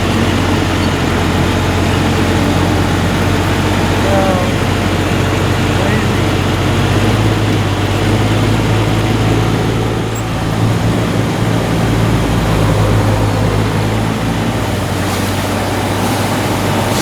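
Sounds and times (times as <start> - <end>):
boat engine running: 0.0 - 17.0
rushing noise: 0.0 - 17.0.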